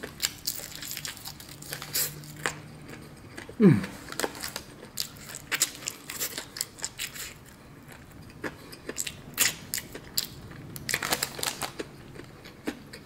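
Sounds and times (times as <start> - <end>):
crunching fried chicken: 0.0 - 13.0.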